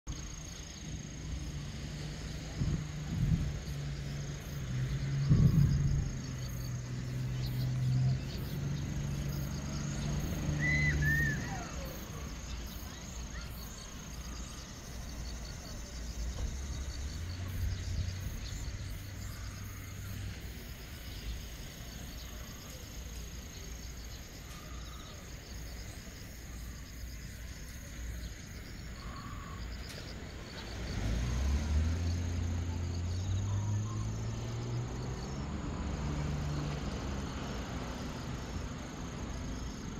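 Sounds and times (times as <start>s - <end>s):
insects droning: 0.1s - 39.9s.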